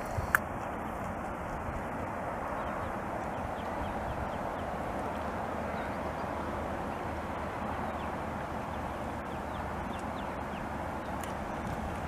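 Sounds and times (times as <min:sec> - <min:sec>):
steady outdoor rush: 0:00.0 - 0:12.0.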